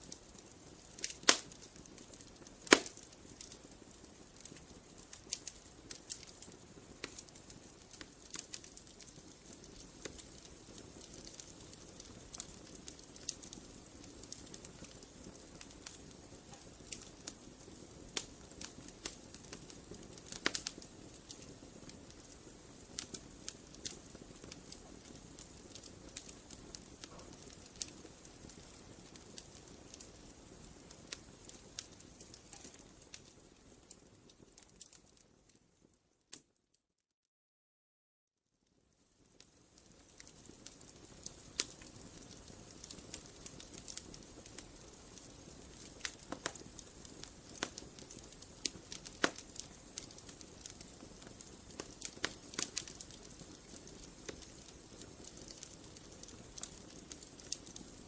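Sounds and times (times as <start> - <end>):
campfire crackling: 0.0 - 36.4, 38.7 - 58.0.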